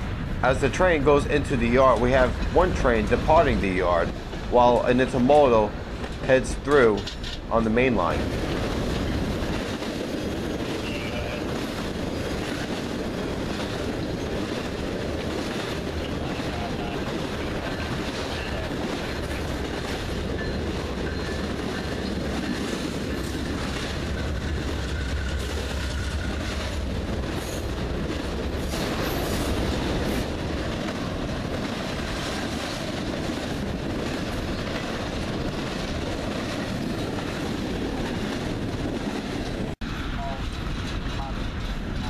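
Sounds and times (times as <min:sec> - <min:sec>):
diesel locomotive engine rumble: 0:00.0 - 0:42.0
freight cars rolling: 0:00.0 - 0:42.0
wheels clicking over rail joints: 0:05.8 - 0:42.0.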